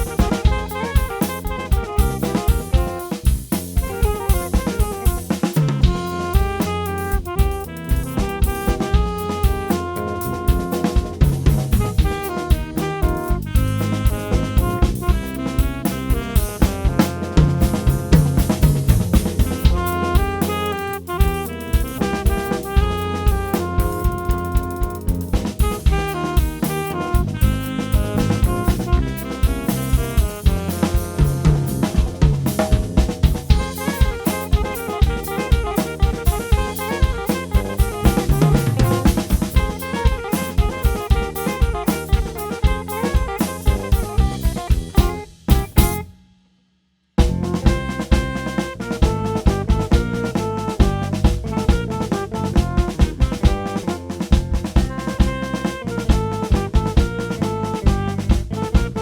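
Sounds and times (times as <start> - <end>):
drum kit beat: 0.0 - 46.2, 47.2 - 59.0
small band playing instrumental: 0.0 - 46.2, 47.2 - 59.0.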